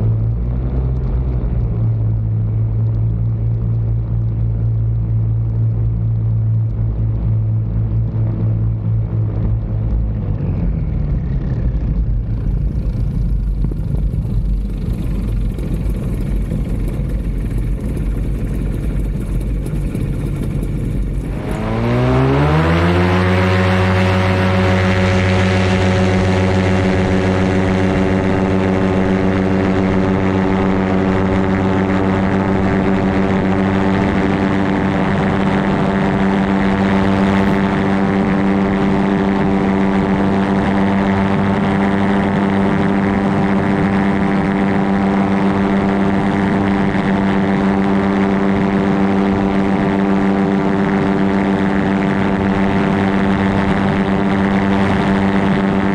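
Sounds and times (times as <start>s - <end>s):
ultralight aircraft engine and propeller: 0.0s - 55.9s.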